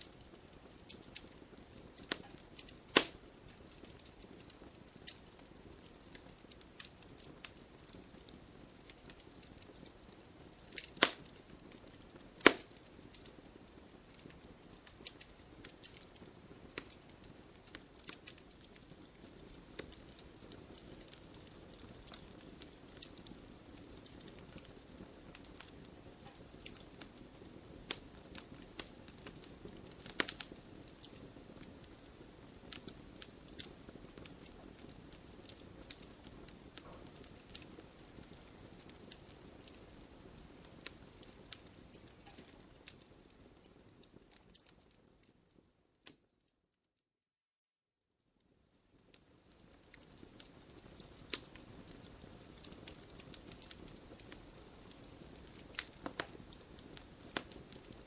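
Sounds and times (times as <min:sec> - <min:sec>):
wood fire crackling and popping: 0:00.0 - 0:46.3, 0:48.4 - 0:58.0.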